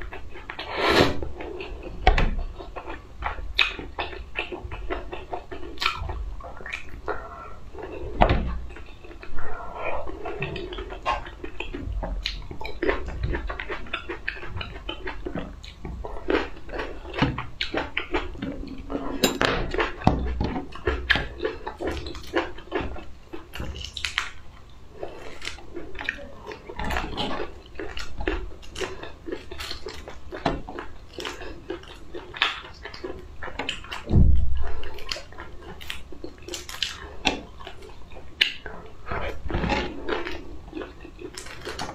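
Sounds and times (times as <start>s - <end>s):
close chewing: 0.0s - 41.9s.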